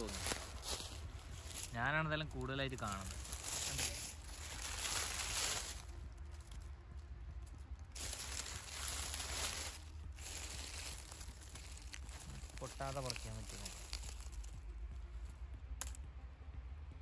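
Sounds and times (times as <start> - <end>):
dry leaves rustling: 0.0 - 6.7, 7.4 - 15.1.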